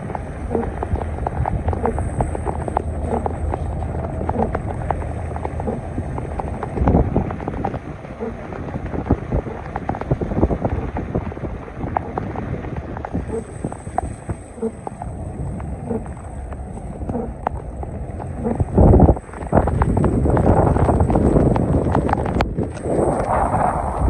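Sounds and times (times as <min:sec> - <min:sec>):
heavy rain splashing: 0:00.0 - 0:24.0
raindrops tapping on surfaces: 0:00.0 - 0:24.0
wind rumbling on microphone: 0:00.0 - 0:24.0.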